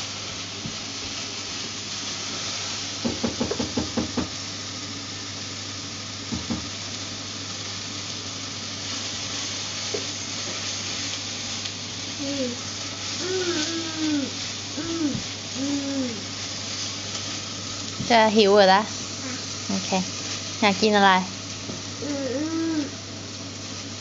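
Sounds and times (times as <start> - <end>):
food hissing in saucepan: 0.0 - 24.0.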